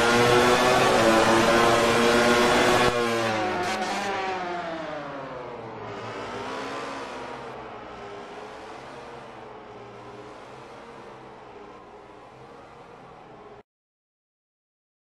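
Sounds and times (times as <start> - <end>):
racing motorcycle engine revving: 0.0 - 12.6.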